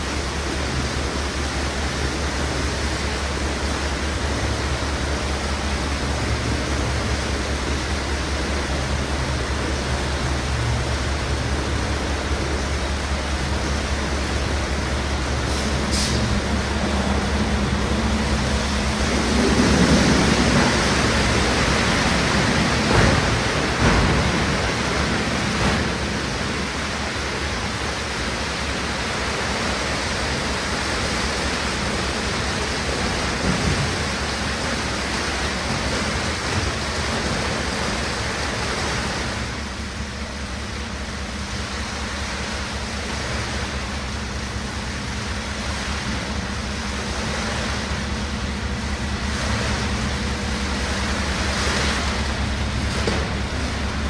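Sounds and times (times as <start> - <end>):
garbage pouring off truck: 0.0 - 54.0
truck engine running: 0.0 - 54.0.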